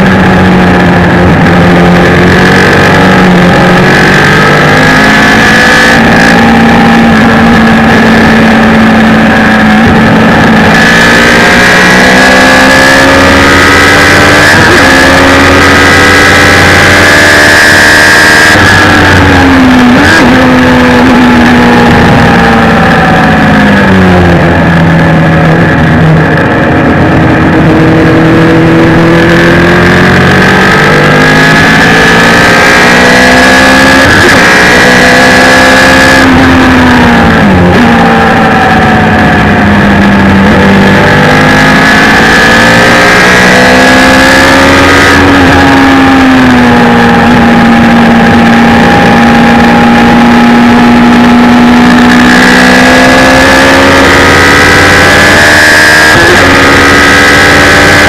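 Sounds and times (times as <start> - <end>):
engine at full throttle: 0.0 - 58.0.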